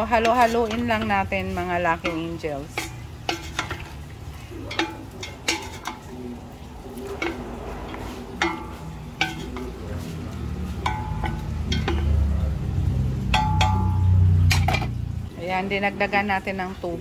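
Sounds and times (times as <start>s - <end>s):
wooden spatula knocking metal pot: 0.0s - 15.6s.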